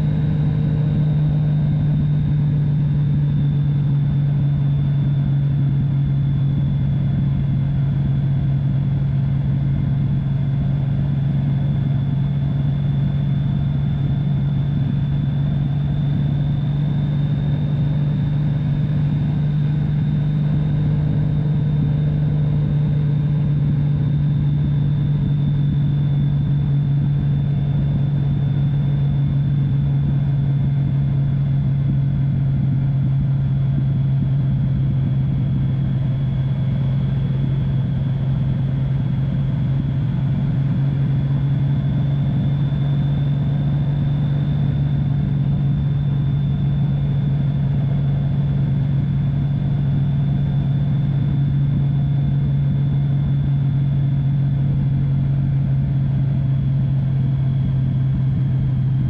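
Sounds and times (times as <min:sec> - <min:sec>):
motorcycle engine hum: 0:00.0 - 0:59.0
road and wind noise: 0:00.0 - 0:59.0.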